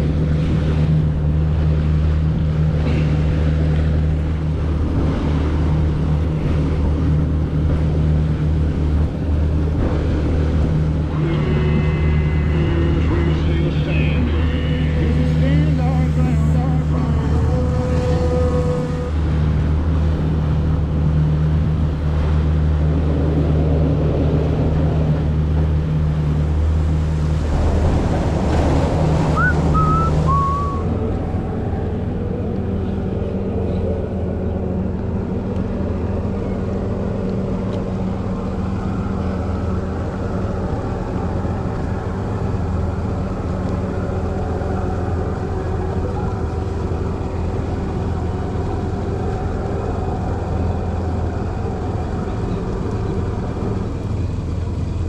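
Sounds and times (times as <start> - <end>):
jet ski engine running: 0.0 - 55.0
wind and water noise: 0.0 - 55.0.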